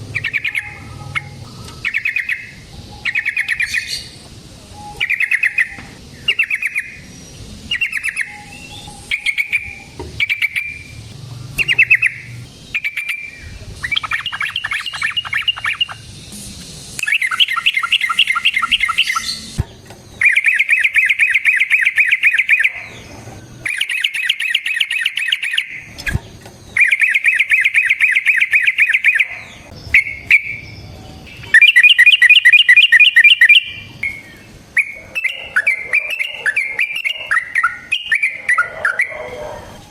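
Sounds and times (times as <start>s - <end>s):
bird bubbly call phrases: 0.0s - 11.0s, 11.6s - 16.1s, 17.0s - 19.5s, 20.2s - 23.0s, 23.6s - 25.9s, 26.8s - 30.6s, 31.2s - 39.8s
bird rapid rolling trills: 0.0s - 39.9s.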